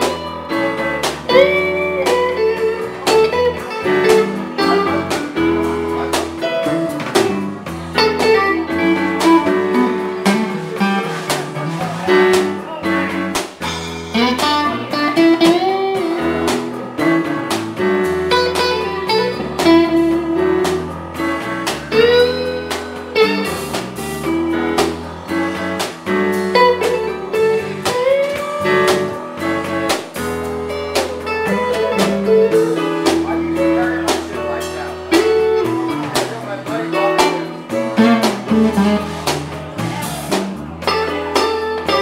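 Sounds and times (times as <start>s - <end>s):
guitar lead with bending notes: 0.0s - 42.0s
live blues band playing: 0.0s - 42.0s.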